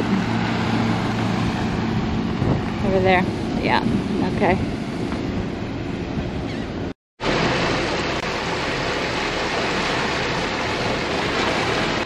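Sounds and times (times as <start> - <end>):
boat engine rumble: 0.0 - 12.0
churning water: 0.0 - 12.0
wind: 0.0 - 12.0.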